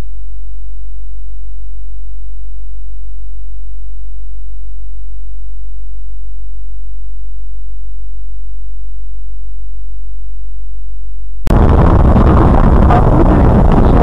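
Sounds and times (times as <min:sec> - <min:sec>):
low-pitched hum: 0:00.0 - 0:14.0.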